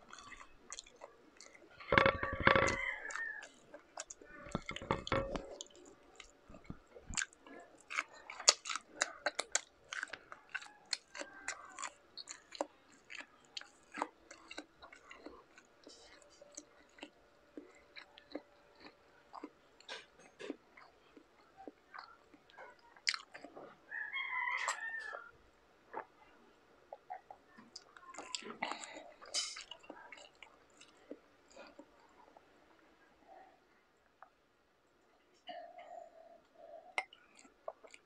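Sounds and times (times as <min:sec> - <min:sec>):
close chewing mouth sounds: 0:00.0 - 0:24.0, 0:25.9 - 0:32.6, 0:36.4 - 0:38.0.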